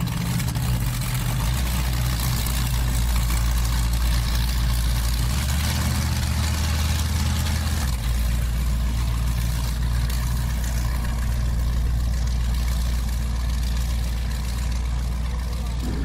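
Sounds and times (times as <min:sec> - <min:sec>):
powerboat engines idling: 0:00.0 - 0:16.0.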